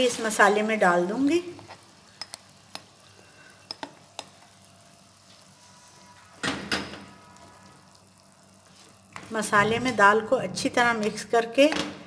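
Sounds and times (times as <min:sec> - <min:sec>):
food sizzling in a frying pan: 0:00.0 - 0:11.7.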